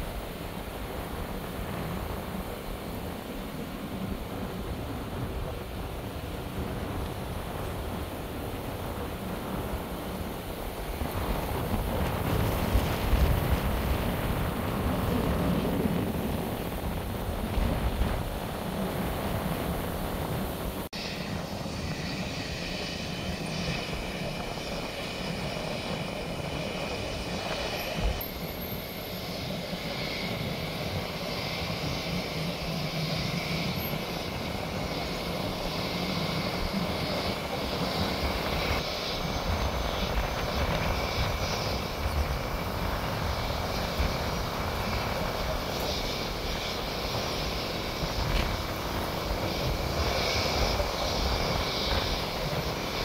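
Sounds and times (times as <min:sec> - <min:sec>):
distant aircraft engines droning: 0:00.0 - 0:53.0.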